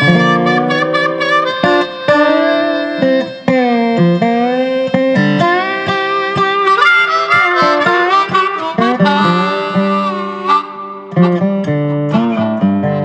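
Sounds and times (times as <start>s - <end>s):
harmonica melody: 0.0s - 13.0s
plucked guitar: 0.0s - 13.0s.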